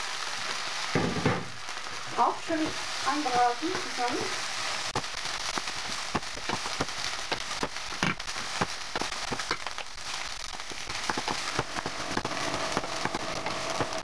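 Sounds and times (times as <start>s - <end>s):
beans sizzling and popping: 0.0s - 14.0s.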